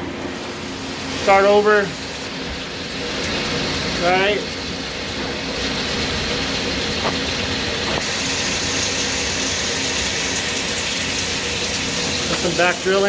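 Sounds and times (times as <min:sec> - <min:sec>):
coolant spray hiss: 0:00.3 - 0:13.0.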